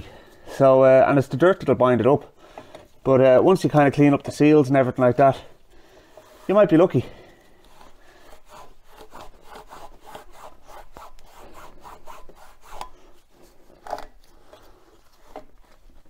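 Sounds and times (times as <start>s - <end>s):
cloth rag scrubbing metal: 2.9s - 16.0s.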